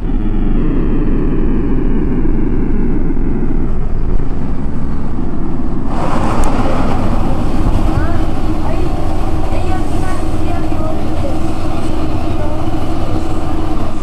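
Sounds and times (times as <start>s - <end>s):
faint falling whine: 0.0s - 14.0s
hissing noise: 0.0s - 14.0s
loud low rumble: 0.0s - 14.0s.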